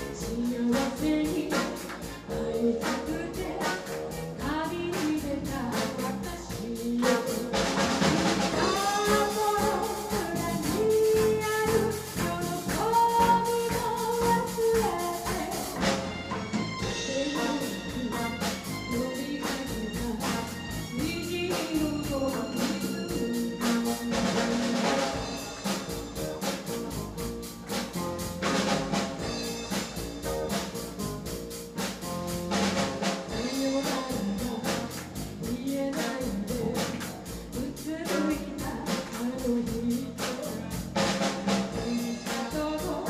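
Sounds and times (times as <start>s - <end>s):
drum kit beat: 0.0s - 43.0s
electric bass: 0.0s - 43.0s
keyboard: 0.0s - 43.0s.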